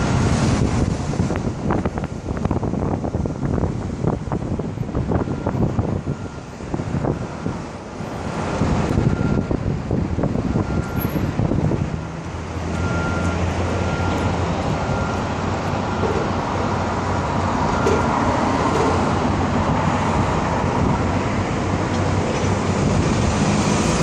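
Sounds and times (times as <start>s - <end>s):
low engine hum: 0.0s - 24.0s
traffic rumble on bridge: 0.0s - 24.0s.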